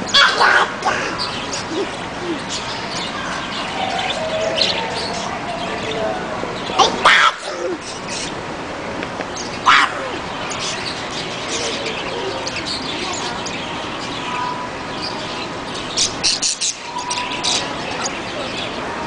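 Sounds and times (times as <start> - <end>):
small birds chirping: 0.0 - 8.4, 9.2 - 19.0.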